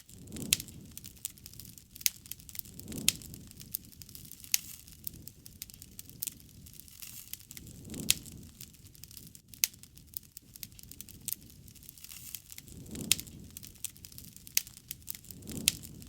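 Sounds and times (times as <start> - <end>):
bonfire crackling: 0.0 - 16.0
low rush of flame: 0.0 - 16.0.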